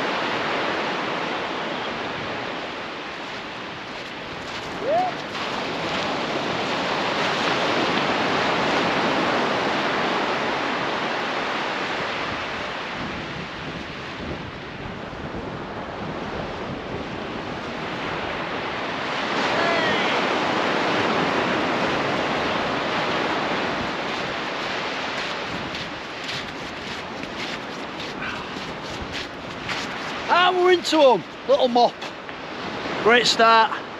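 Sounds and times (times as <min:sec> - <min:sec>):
wind buffeting microphone: 0:00.0 - 0:33.1
surf washing on shore: 0:00.0 - 0:33.9.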